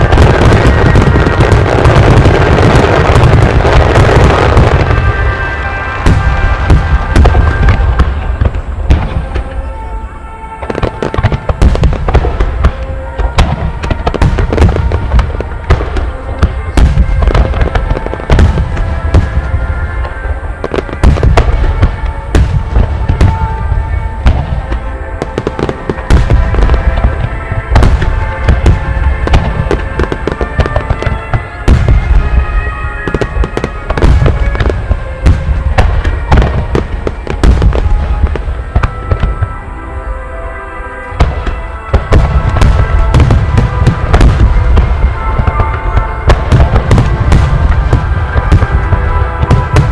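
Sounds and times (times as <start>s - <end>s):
fireworks booming and crackling: 0.0s - 49.9s
music: 0.0s - 49.9s.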